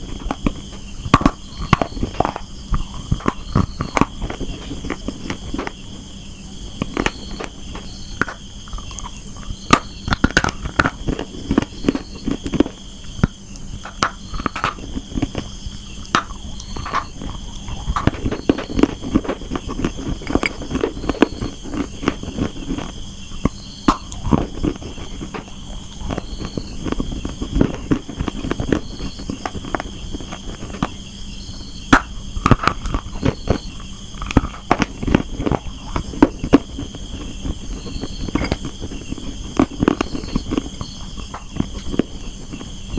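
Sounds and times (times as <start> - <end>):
chewing hard clay crunches: 0.0 - 42.9.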